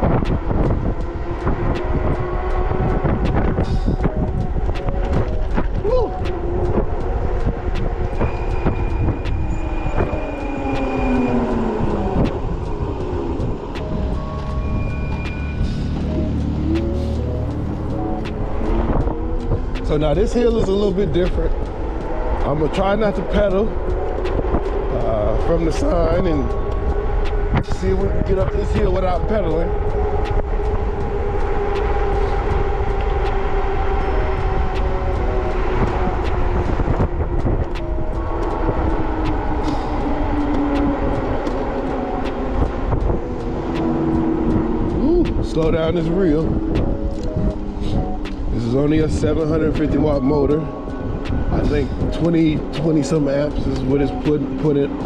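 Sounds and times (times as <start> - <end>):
road rumble: 0.0 - 55.0
wind buffeting on microphone: 0.0 - 55.0.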